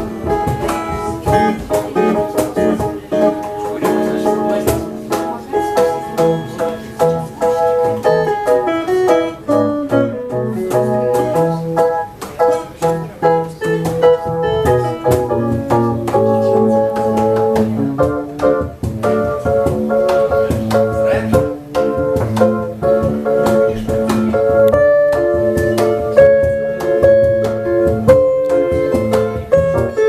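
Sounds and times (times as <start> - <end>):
plucked string notes: 0.0 - 30.0.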